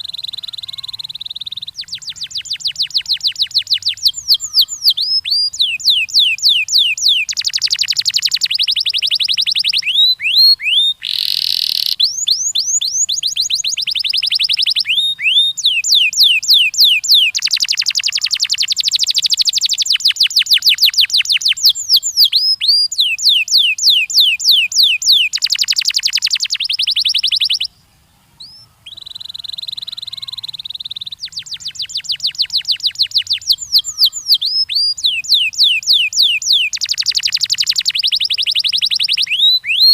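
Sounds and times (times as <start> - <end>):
canary singing trills: 0.0 - 39.9
held bird whistle: 0.0 - 39.9.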